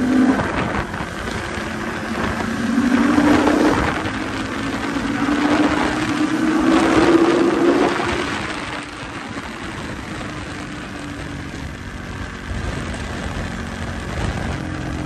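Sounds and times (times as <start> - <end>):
motorcycle engine accelerating: 0.0 - 15.0
wind noise: 0.0 - 15.0.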